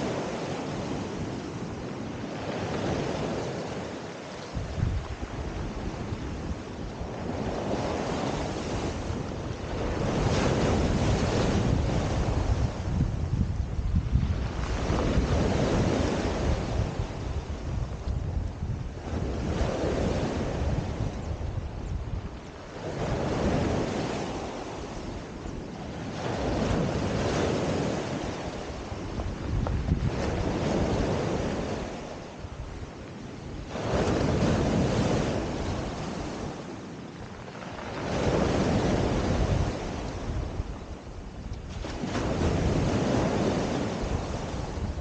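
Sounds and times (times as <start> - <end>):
surf on pebble beach: 0.0 - 45.0
wind buffeting microphone: 0.0 - 45.0.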